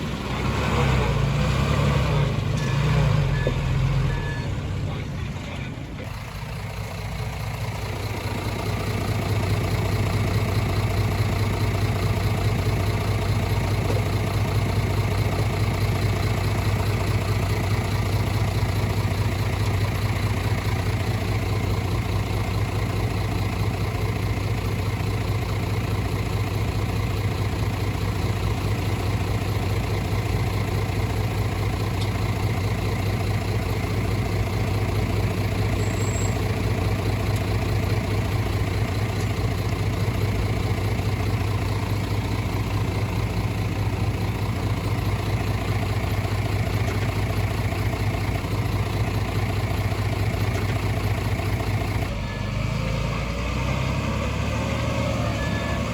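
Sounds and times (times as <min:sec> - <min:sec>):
heavy diesel engine humming: 0:00.0 - 0:55.9.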